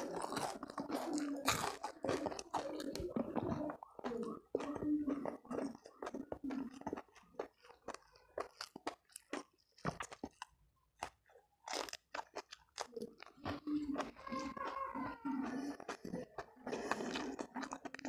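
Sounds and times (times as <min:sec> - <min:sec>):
person chewing crunchy food: 0:00.0 - 0:18.0.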